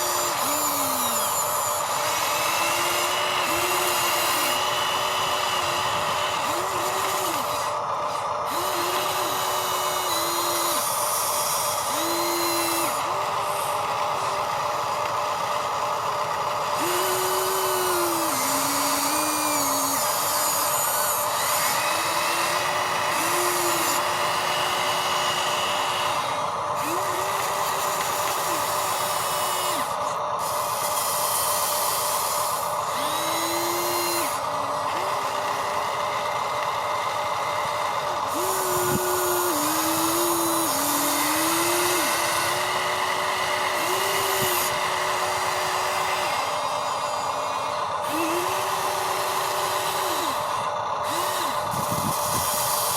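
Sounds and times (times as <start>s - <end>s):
electric motors whining: 0.0s - 52.9s
steady motor hum: 0.0s - 52.9s.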